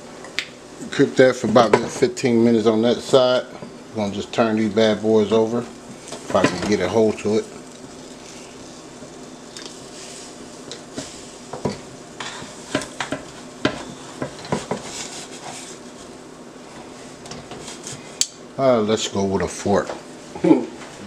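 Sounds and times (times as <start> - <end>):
faint steady hiss: 0.0 - 21.0
tongs scraping air fryer basket: 1.2 - 18.1.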